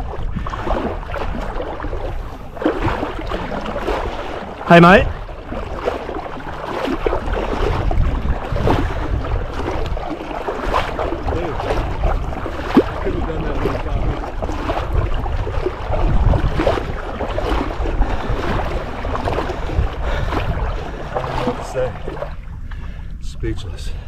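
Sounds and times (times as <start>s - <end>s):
small waves lapping: 0.0s - 24.0s
wind buffeting microphone: 0.0s - 24.0s.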